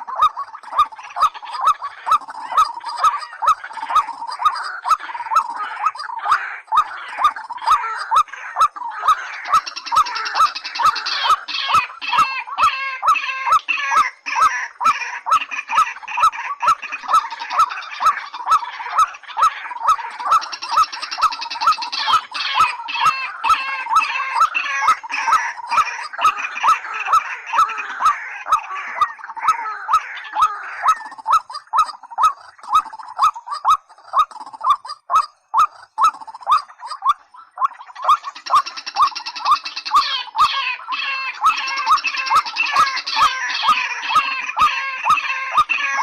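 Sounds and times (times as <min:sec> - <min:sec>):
harsh chattering bird calls: 0:00.0 - 0:46.0.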